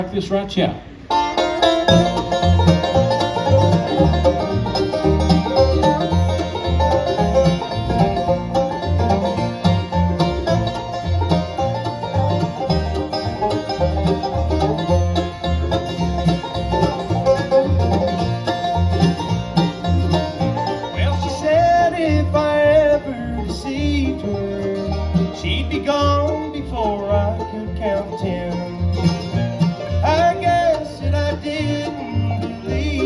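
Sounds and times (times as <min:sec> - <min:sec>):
bluegrass band playing: 0:00.0 - 0:33.0.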